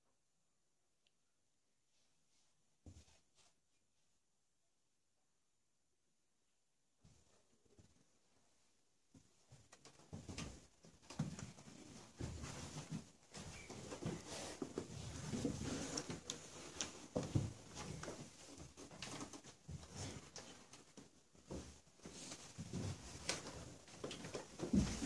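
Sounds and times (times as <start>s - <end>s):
rustling and shuffling: 1.9s - 4.2s, 7.0s - 25.0s.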